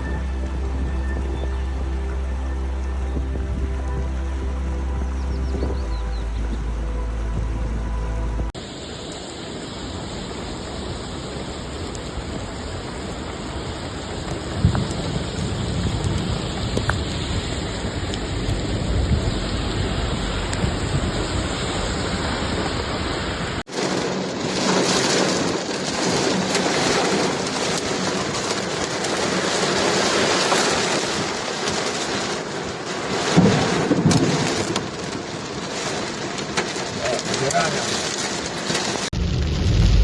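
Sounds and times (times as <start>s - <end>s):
deep rumble: 0.0s - 8.8s, 9.6s - 32.3s, 36.7s - 40.0s
heavy rain downpour: 0.0s - 40.0s
hiss of rain: 0.0s - 40.0s.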